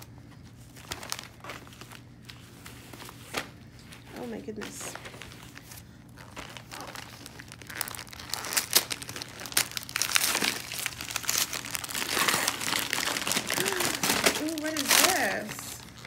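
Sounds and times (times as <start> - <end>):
wrapping paper crinkling: 0.0 - 16.0.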